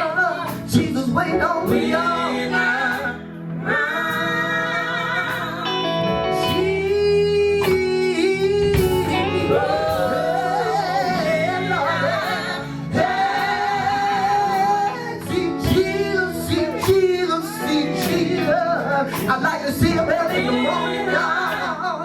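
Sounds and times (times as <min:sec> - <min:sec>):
instrumental backing: 0:00.0 - 0:22.0
person singing gospel: 0:00.0 - 0:22.0.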